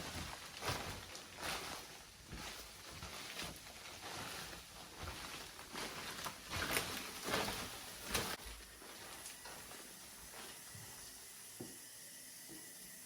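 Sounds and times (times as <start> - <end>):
footsteps on floor: 0.0 - 11.8.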